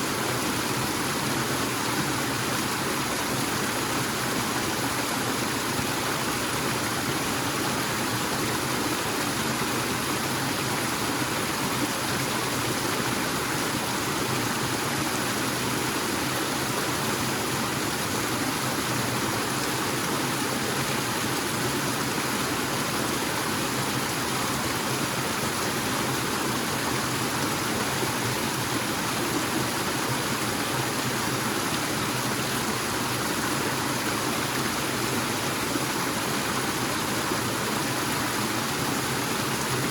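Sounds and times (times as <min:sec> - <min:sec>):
waterfall splashing and rushing: 0:00.0 - 0:39.9.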